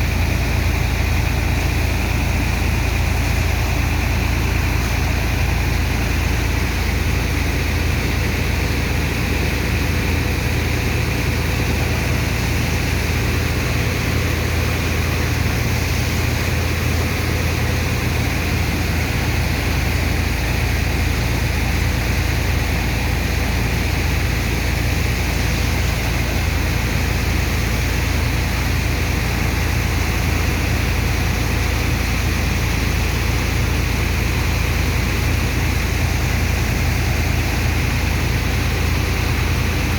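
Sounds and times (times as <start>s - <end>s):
heavy engine droning: 0.0s - 39.9s
water pump rushing: 0.0s - 39.9s.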